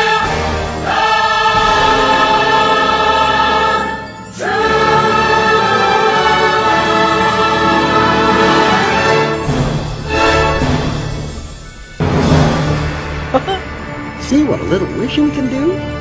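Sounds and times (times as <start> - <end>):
choir singing held chords: 0.0 - 14.2
orchestra playing: 0.0 - 16.0.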